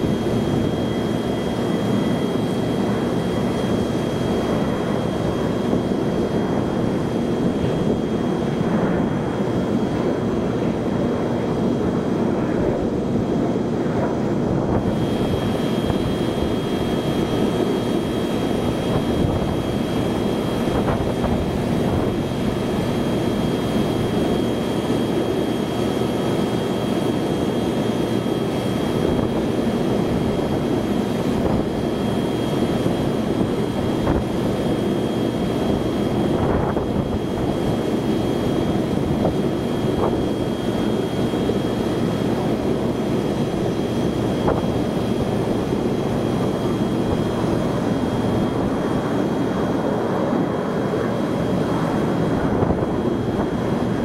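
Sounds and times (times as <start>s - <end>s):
high steady whine: 0.0s - 54.0s
jet engines rumbling: 0.0s - 54.0s.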